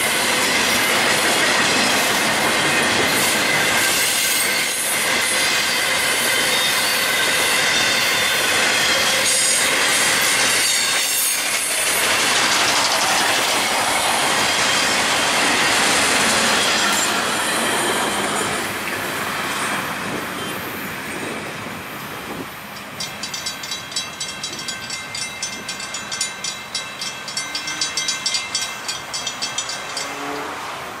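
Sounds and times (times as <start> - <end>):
crossing bell ringing: 0.0 - 18.6, 22.6 - 31.0
train wheels rumbling on rails: 0.0 - 31.0.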